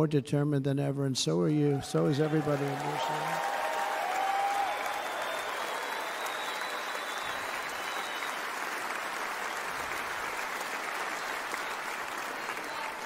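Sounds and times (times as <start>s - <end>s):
audience applauding: 1.7s - 13.0s.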